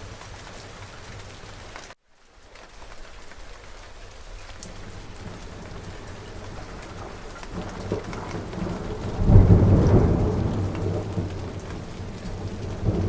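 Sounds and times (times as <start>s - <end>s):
rain pattering: 0.0s - 13.0s
raindrops ticking: 0.0s - 13.0s.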